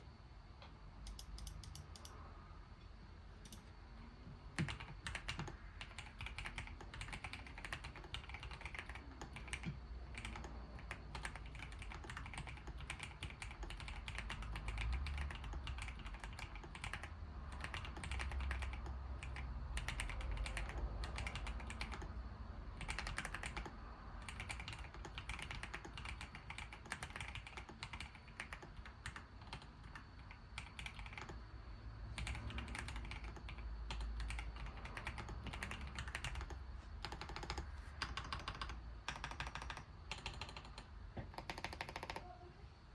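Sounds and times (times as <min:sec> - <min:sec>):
mechanical keyboard typing: 0:01.0 - 0:02.2, 0:03.4 - 0:03.7, 0:04.5 - 0:31.5, 0:32.1 - 0:42.4.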